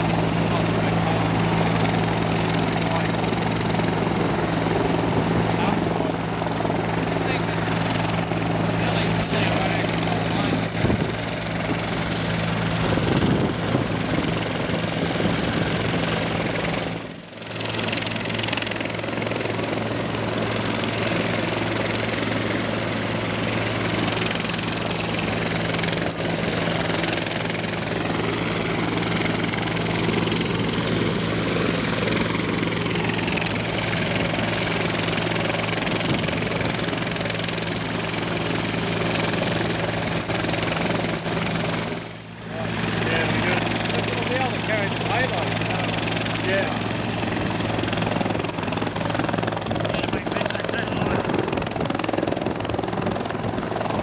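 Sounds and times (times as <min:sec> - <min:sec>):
helicopter rotor low hum: 0:00.0 - 0:54.0
helicopter turbine whine: 0:00.0 - 0:54.0.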